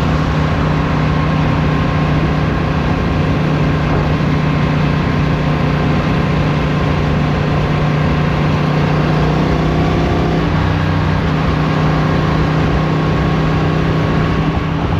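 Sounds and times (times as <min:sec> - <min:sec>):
motorcycle engine running: 0:00.0 - 0:14.9
wind and road noise: 0:00.0 - 0:14.9.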